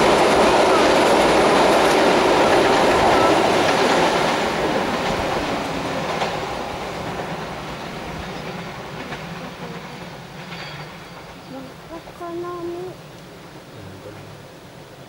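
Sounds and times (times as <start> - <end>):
train wheels rumbling and clacking: 0.0 - 12.9.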